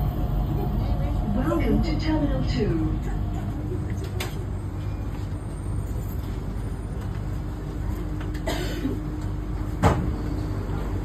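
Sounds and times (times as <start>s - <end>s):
train car rumbling: 0.0s - 11.0s.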